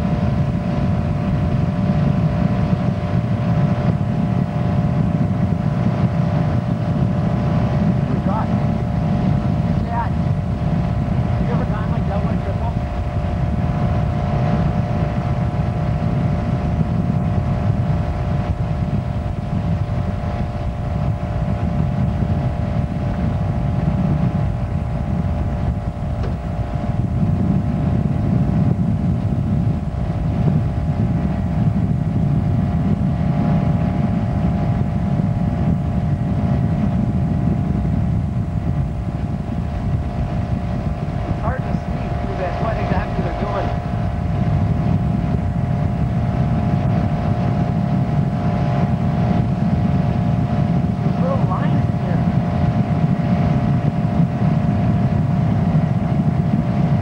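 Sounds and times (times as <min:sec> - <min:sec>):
boat engine running: 0:00.0 - 0:57.0
wind buffeting the microphone: 0:00.0 - 0:57.0.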